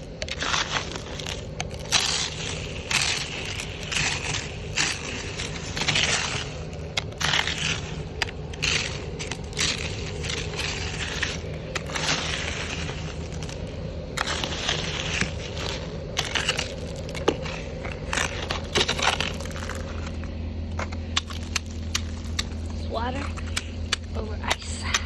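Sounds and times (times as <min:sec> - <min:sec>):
icy snow crunching and scraping: 0:00.0 - 0:25.0
steady low hum: 0:00.0 - 0:25.0.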